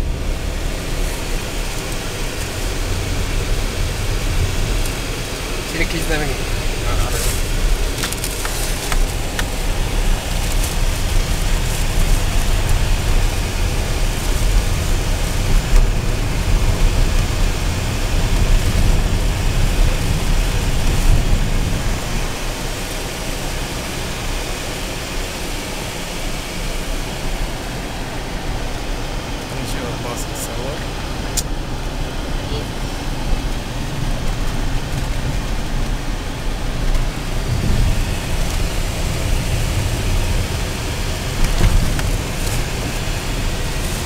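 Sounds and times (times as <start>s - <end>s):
car cabin road and engine noise: 0.0s - 44.0s.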